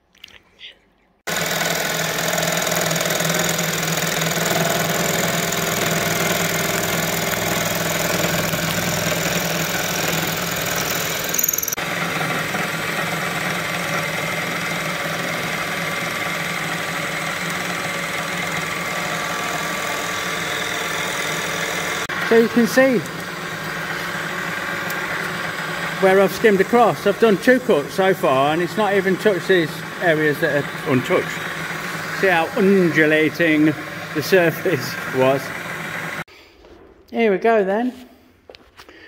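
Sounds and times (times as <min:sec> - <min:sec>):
metal cutting noise: 0:01.3 - 0:36.3
milling machine drone: 0:01.3 - 0:36.3.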